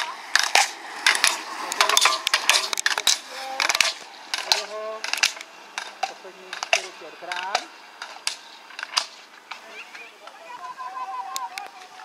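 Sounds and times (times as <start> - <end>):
poles clacking on gates and asphalt: 0.0 - 12.0.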